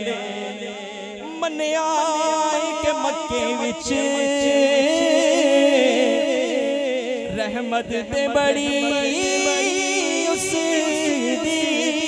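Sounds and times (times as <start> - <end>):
men singing unaccompanied: 1.4 - 12.0.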